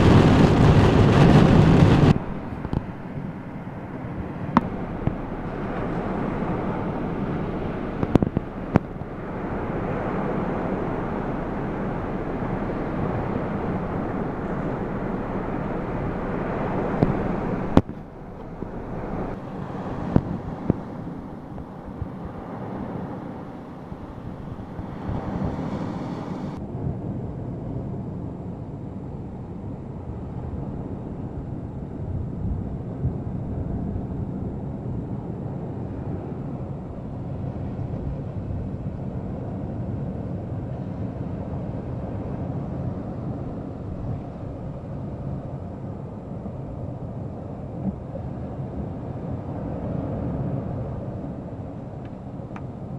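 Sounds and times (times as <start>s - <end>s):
gusty wind buffeting microphone: 0.0s - 52.9s.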